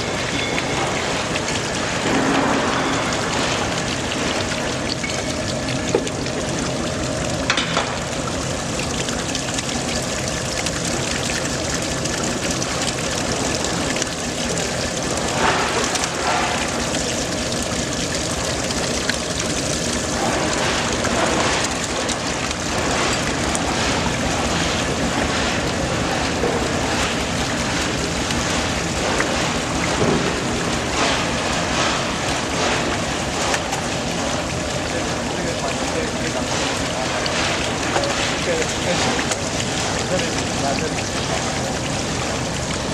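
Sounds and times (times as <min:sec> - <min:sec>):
motor humming steadily: 0:00.0 - 0:42.9
water pouring and rushing: 0:00.0 - 0:42.9.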